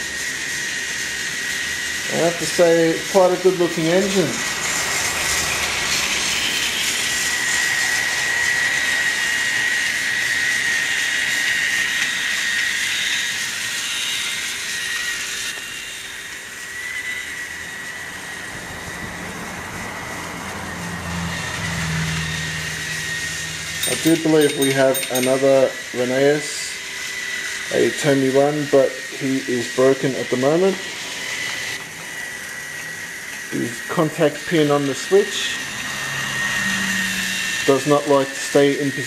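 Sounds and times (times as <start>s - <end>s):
toy train motor whine: 0.0s - 39.0s
toy train wheels on plastic track: 0.0s - 39.0s.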